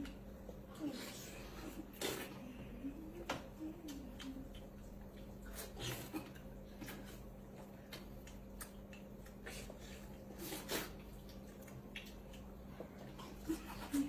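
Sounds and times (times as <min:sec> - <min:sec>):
faint steady hum: 0:00.0 - 0:14.0
people peeling and eating fruit: 0:00.0 - 0:14.0.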